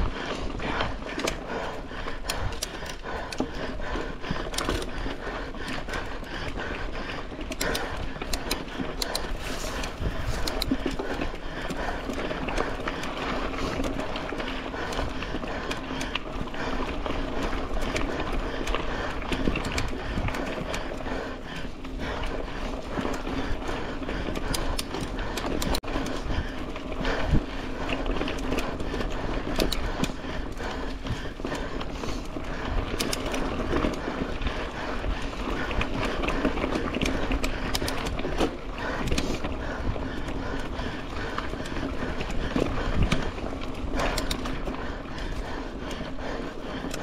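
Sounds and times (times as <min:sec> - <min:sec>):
bike chain and frame rattling: 0:00.0 - 0:47.0.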